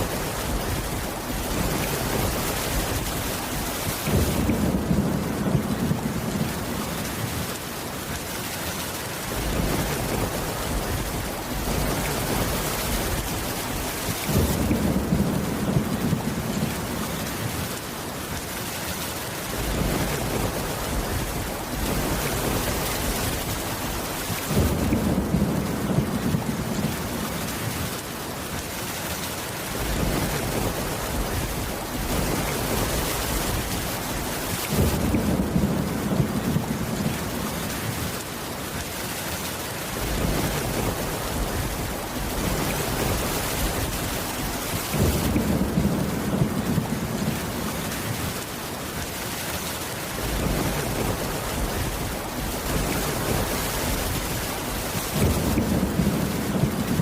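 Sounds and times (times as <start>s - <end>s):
low thunder rumble: 0.0s - 7.5s, 9.3s - 17.8s, 19.5s - 28.0s, 29.7s - 38.2s, 39.9s - 48.4s, 50.2s - 57.0s
heavy rain: 0.0s - 57.0s.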